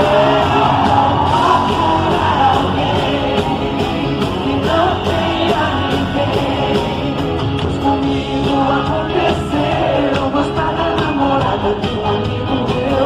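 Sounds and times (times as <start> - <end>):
drum beat: 0.0 - 13.0
live band playing pop-rock: 0.0 - 13.0
person singing: 0.0 - 13.0.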